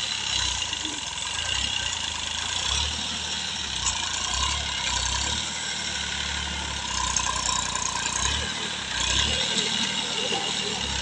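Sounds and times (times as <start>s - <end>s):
tractor diesel engine rumble: 0.0s - 11.0s.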